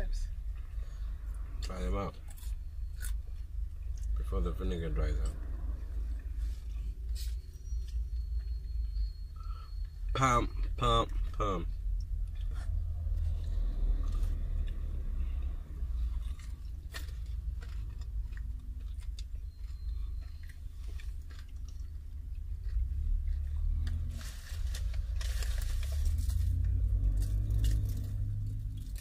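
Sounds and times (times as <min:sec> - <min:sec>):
low rumble: 0:00.0 - 0:29.0
chewing crispy fried chicken: 0:02.1 - 0:04.2, 0:07.7 - 0:29.0.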